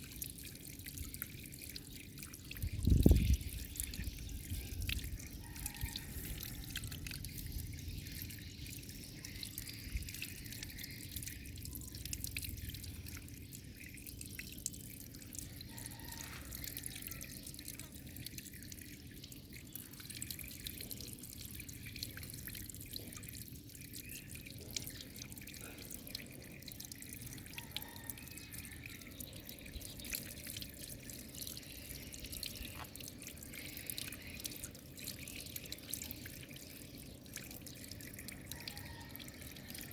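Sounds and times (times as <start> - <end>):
small drips and spatters: 0.0 - 39.9.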